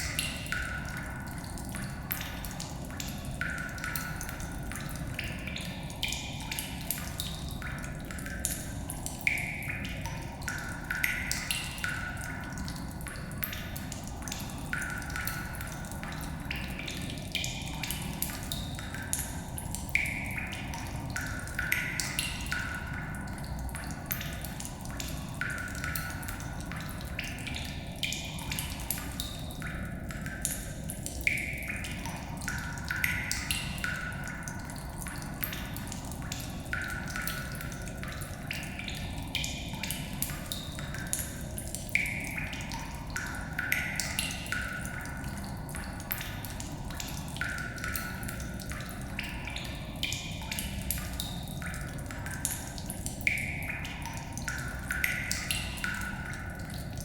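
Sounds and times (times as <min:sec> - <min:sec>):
water dripping in a cave: 0:00.0 - 0:57.0.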